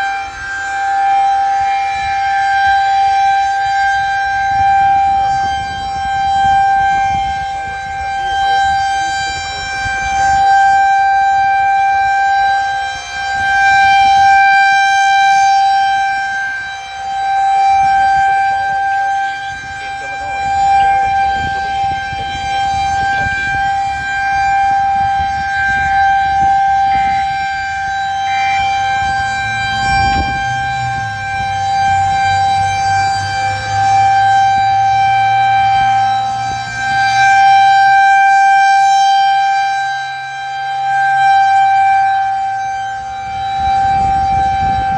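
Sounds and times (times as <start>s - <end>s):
rotating warning siren: 0.0s - 44.9s.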